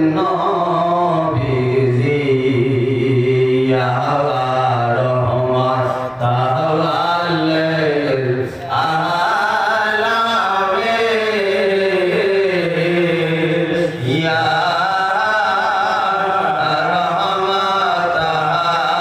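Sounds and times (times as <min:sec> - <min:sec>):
person chanting: 0:00.0 - 0:19.0.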